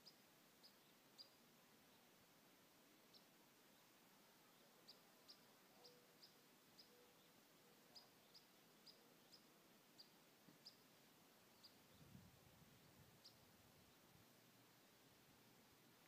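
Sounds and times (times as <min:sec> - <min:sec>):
small bird chirping: 0:00.0 - 0:02.0, 0:03.1 - 0:15.0.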